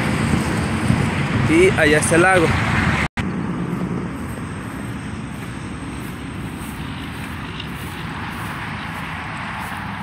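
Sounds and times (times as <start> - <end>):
freeway traffic drone: 0.0 - 10.0.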